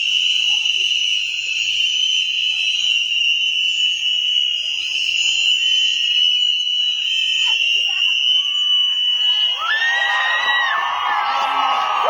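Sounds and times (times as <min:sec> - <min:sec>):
crowd blowing plastic whistles: 0:00.0 - 0:12.0.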